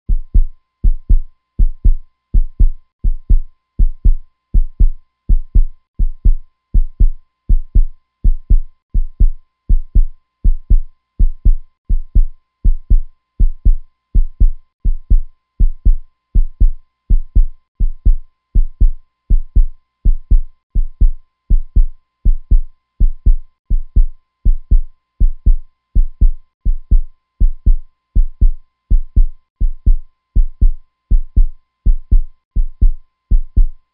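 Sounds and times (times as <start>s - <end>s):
heartbeat thumps: 0.1s - 33.8s
faint steady hum: 0.1s - 33.9s.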